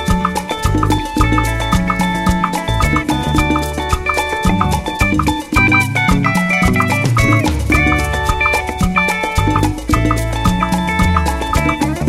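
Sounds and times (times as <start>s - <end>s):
salsa-like background music: 0.0s - 12.0s.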